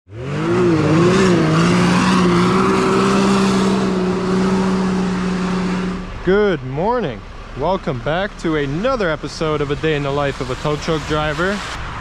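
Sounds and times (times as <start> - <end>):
vehicle engine running at high revs: 0.1 - 12.0.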